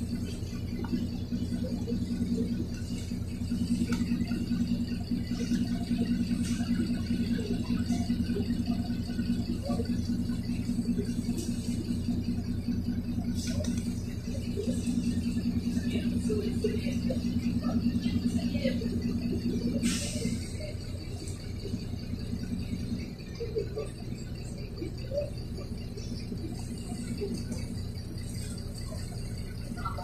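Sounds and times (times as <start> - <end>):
bus diesel engine humming: 0.0 - 30.0.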